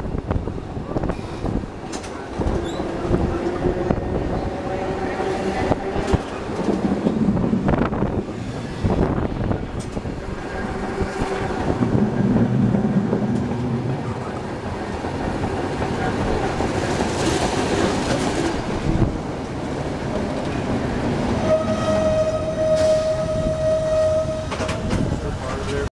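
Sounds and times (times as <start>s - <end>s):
streetcar passing by: 0.0s - 25.9s
wheels rumbling on rails: 0.0s - 25.9s.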